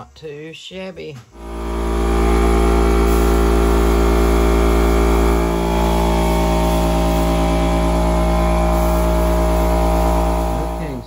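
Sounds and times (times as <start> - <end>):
electric air compressor running: 1.4 - 11.0
spray gun hissing: 1.4 - 11.0.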